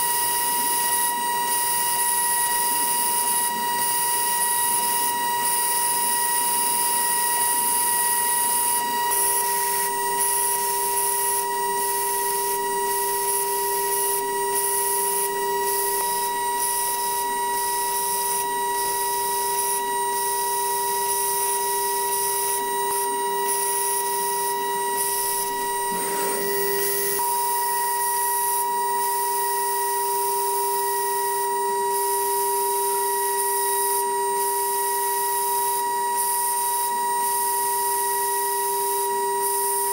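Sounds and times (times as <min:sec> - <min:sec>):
cutter hiss on metal: 0:00.0 - 0:39.9
milling machine spindle whine: 0:00.0 - 0:39.9.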